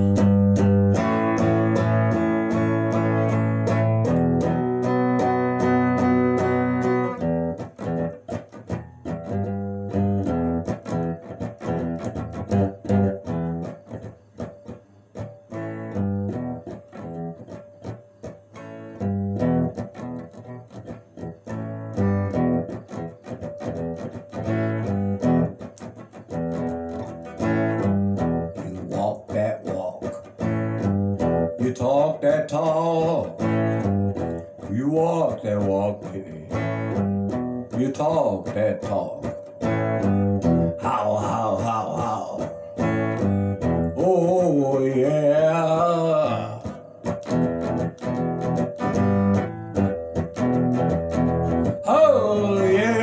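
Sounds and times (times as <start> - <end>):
electric guitar boogie riff: 0.0 - 53.0.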